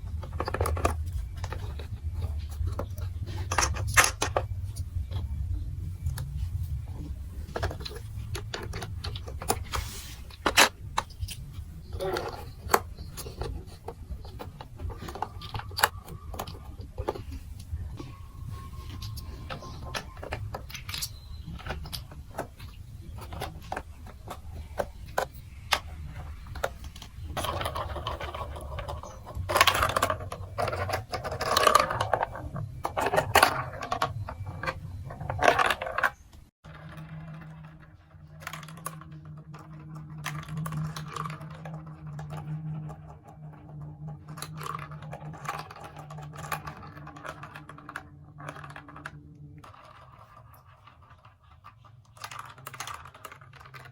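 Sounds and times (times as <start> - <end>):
plastic pieces clattering: 0.0 - 5.3, 6.0 - 53.9.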